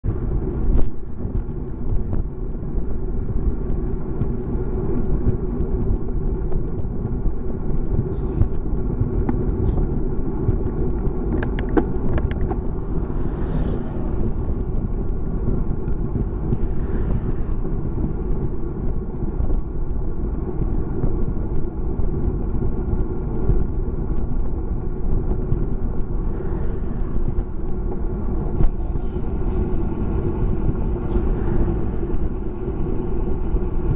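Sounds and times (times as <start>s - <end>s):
bicycle road noise: 0.0s - 33.9s
wind rush: 0.0s - 33.9s.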